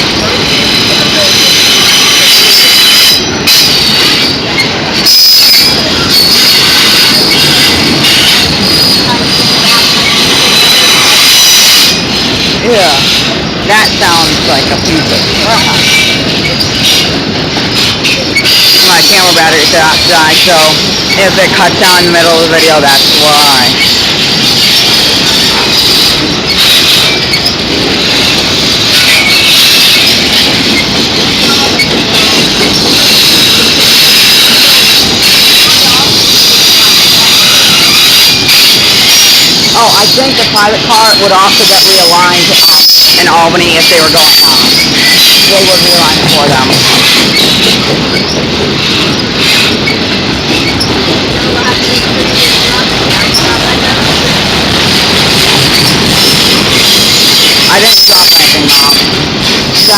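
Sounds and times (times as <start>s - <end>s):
rumble of train cars: 0.0s - 59.9s
train wheels squealing on rails: 0.0s - 59.9s.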